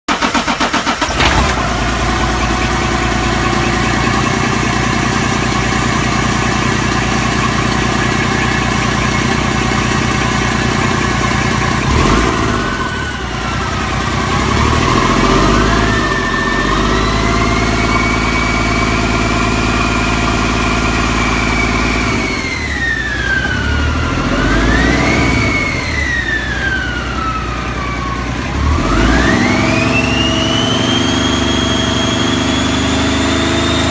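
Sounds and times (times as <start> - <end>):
diesel engine idling and revving: 0.1 - 33.9.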